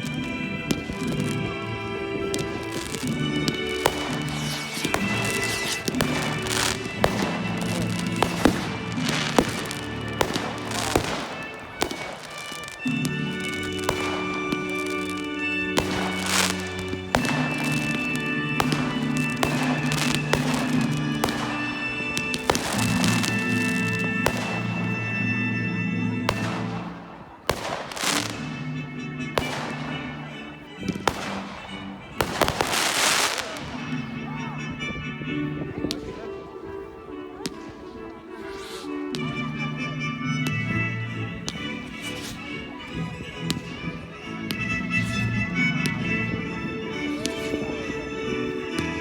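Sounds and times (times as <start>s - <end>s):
background music: 0.0s - 49.0s
fireworks bangs and crackling: 0.0s - 49.0s.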